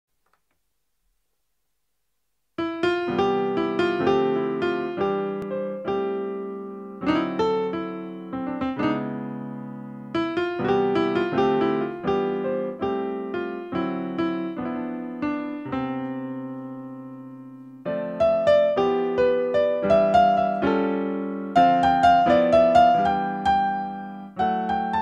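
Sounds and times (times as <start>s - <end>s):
cheerful piano melody: 2.6s - 25.0s.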